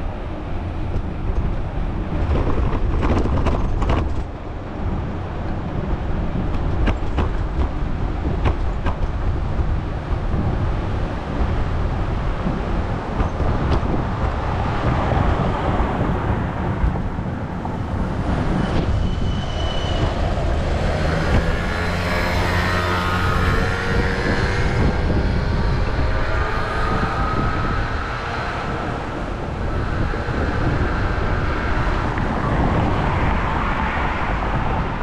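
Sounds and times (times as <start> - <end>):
wind and bicycle road noise: 0.0 - 35.0.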